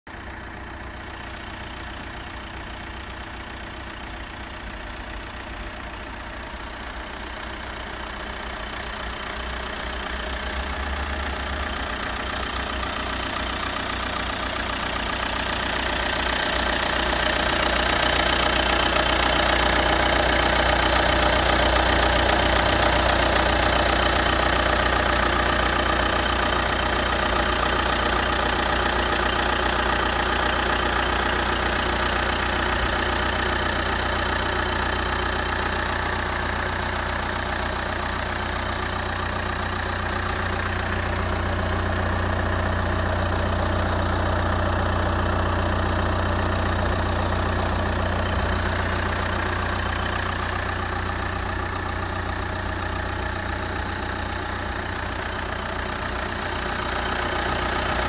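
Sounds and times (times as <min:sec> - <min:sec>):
diesel engine idling: 0:00.1 - 0:58.0.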